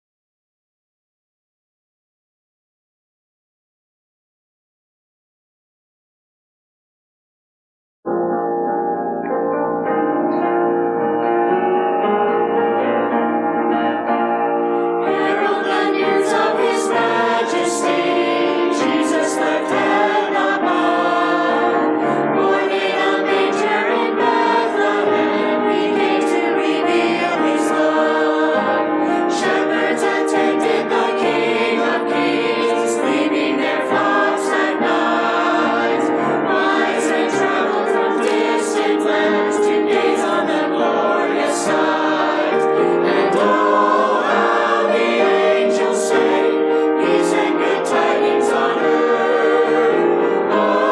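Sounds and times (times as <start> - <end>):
church choir singing: 9.2 - 50.9.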